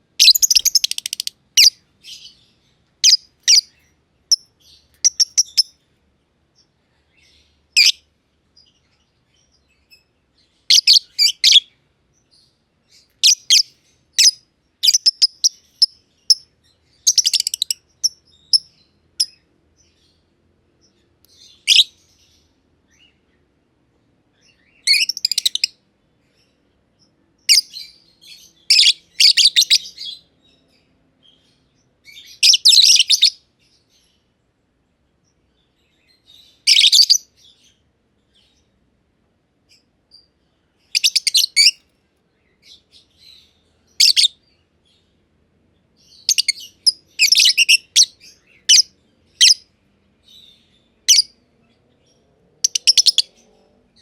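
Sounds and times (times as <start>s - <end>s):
lovebirds chirping: 0.0s - 23.6s, 24.3s - 34.4s, 35.0s - 38.8s, 39.7s - 54.0s.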